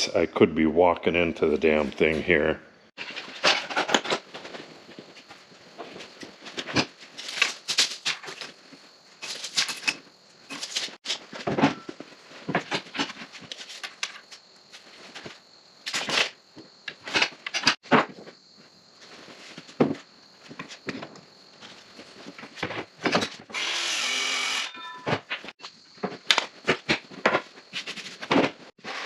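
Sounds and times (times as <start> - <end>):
wood and tools clattering: 3.0 - 18.3, 19.4 - 29.0.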